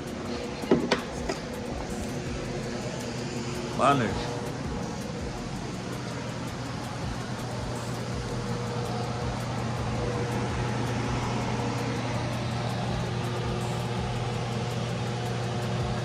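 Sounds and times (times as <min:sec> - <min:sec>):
hiss: 0:00.0 - 0:16.0
steady mechanical hum: 0:00.0 - 0:16.0.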